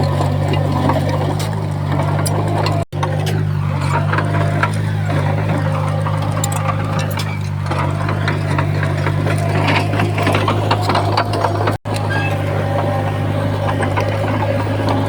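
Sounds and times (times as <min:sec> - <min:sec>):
bulldozer diesel engine running: 0:00.0 - 0:15.0
clanks and rattles: 0:00.0 - 0:15.0.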